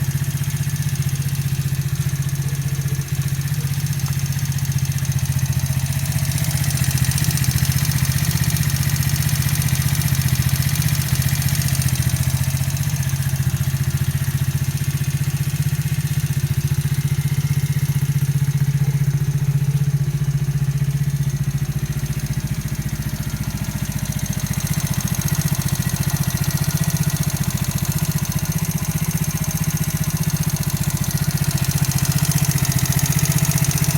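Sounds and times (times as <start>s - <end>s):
engine running with knock: 0.0s - 33.9s.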